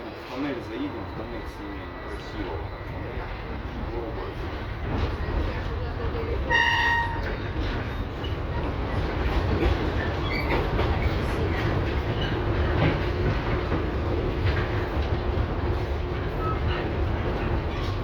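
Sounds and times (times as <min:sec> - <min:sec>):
tram wheels rumbling on rail: 0:00.0 - 0:18.0.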